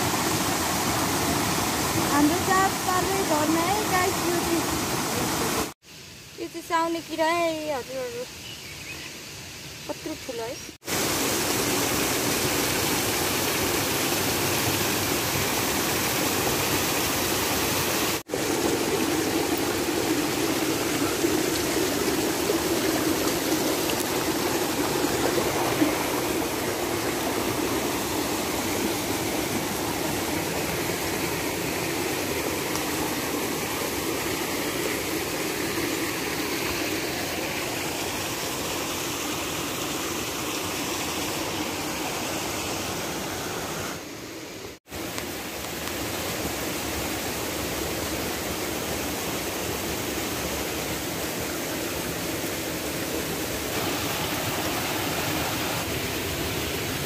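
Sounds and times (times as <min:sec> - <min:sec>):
water rushing over boulders: 0:00.0 - 0:05.8, 0:10.4 - 0:57.0.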